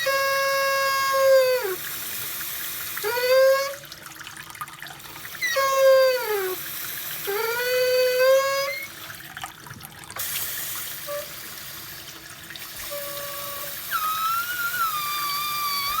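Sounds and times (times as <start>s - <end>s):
faucet squealing: 0.0s - 4.0s, 4.8s - 9.4s, 10.2s - 16.0s
faucet water hissing: 0.0s - 16.0s.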